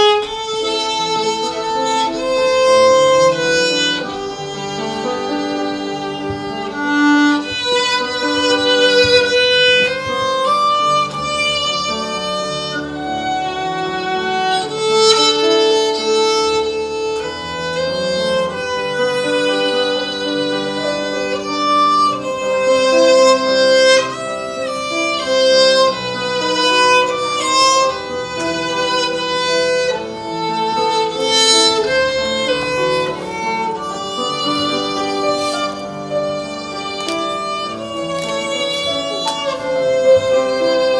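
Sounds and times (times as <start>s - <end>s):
lower accompaniment: 0.0s - 40.9s
violin melody: 0.0s - 40.9s.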